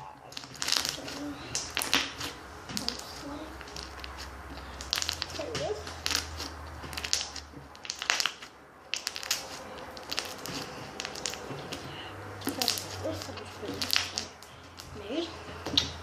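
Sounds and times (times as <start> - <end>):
crackling clicks and crunches: 0.0 - 11.8, 12.4 - 15.0.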